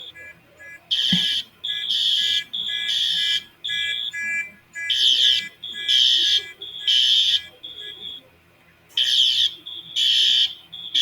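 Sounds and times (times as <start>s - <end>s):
weaker steady alarm tone: 0.0s - 8.3s, 9.0s - 11.0s.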